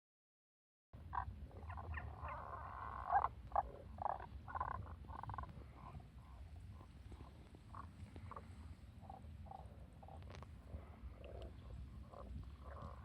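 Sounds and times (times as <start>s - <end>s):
frogs croaking: 1.0s - 13.0s
steady low rumble: 1.0s - 13.0s.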